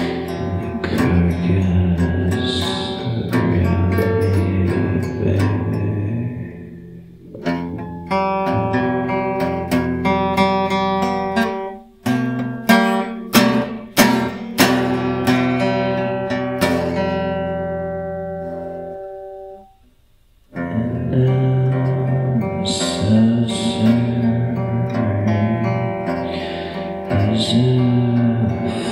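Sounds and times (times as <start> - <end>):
acoustic guitar playing blues: 0.0 - 28.9.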